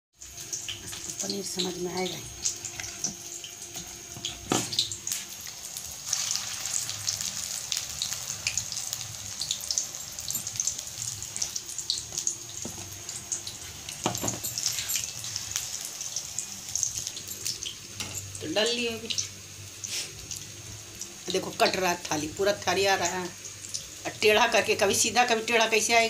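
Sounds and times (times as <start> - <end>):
deep-frying in hot oil: 0.2 - 26.0.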